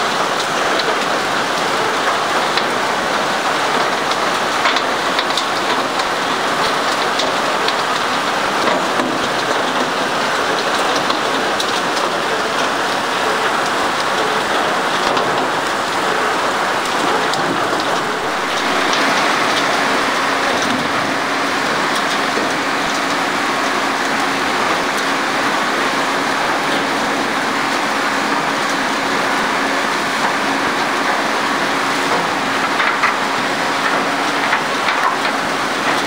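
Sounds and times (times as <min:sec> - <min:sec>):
water and gravel pouring: 0:00.2 - 0:36.0.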